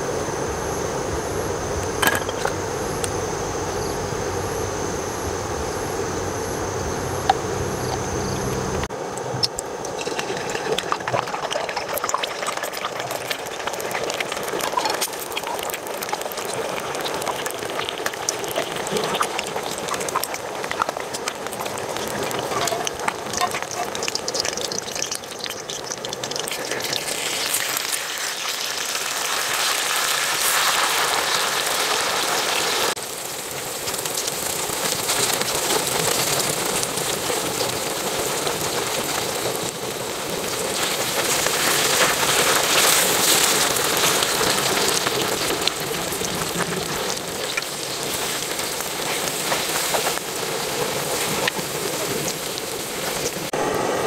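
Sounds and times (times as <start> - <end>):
eggs sizzling in hot oil: 1.4 - 4.7, 5.5 - 54.0.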